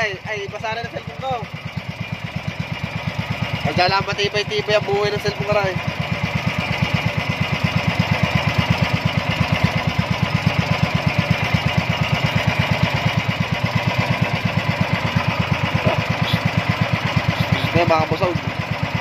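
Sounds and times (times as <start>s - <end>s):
boat engine puttering: 0.0s - 19.0s.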